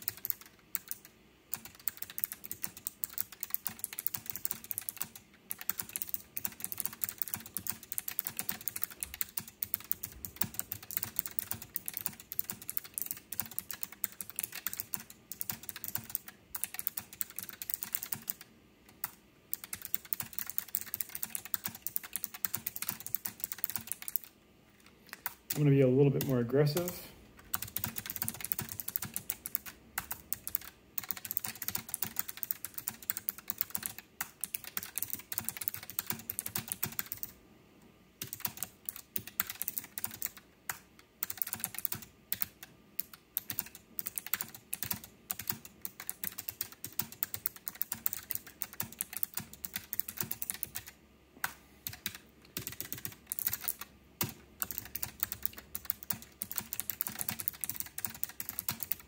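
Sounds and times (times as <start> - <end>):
mechanical keyboard typing: 0.0 - 24.4, 25.1 - 37.4, 38.2 - 59.0.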